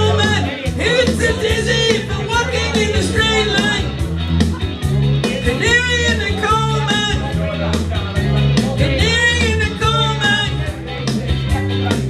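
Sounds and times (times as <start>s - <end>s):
upbeat rock song with vocals: 0.0s - 12.0s.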